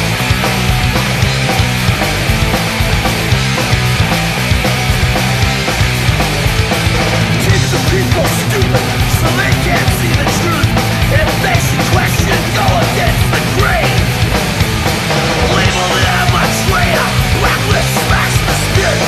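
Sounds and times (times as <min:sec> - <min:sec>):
hardcore punk music: 0:00.0 - 0:19.0.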